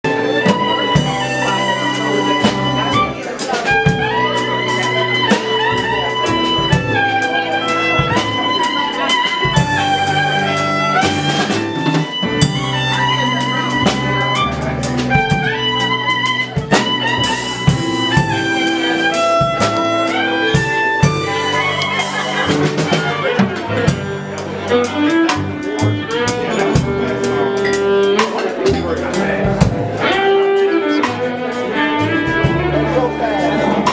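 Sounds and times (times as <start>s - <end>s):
drum kit steady beat: 0.0s - 33.9s
instrumental music with horns: 0.0s - 33.9s.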